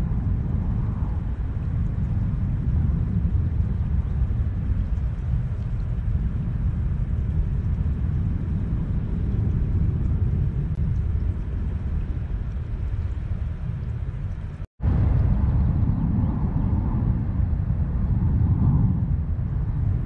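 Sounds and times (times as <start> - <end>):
steady low rumbling noise: 0.0 - 20.0.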